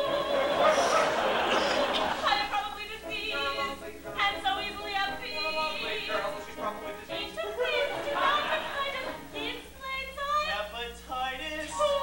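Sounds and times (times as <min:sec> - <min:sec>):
woman singing: 0:00.0 - 0:01.2, 0:02.1 - 0:12.0.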